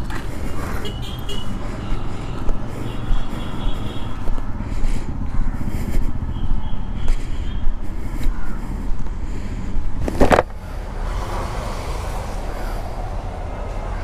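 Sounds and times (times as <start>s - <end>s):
rumble of passing vehicles: 0.0s - 14.0s.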